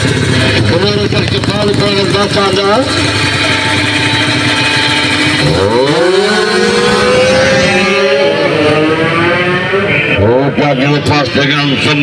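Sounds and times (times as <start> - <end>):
motorcycles revving and accelerating: 0.0 - 12.0.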